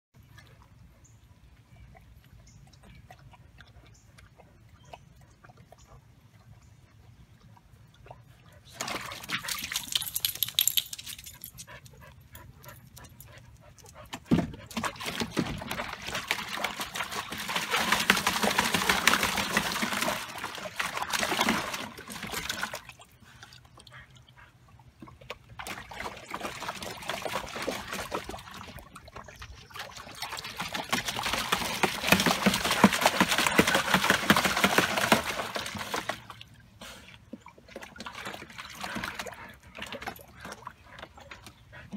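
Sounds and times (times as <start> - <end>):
water sloshing in a tub: 0.2 - 41.9.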